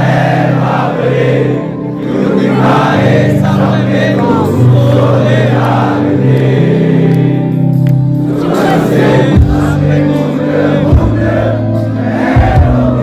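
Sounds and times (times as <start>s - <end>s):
crowd singing along: 0.0s - 13.0s
held low chords: 0.0s - 13.0s.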